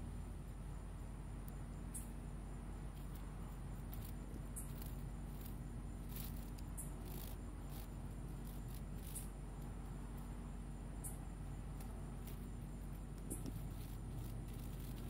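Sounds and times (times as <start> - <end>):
night insects chirring: 0.0 - 15.0.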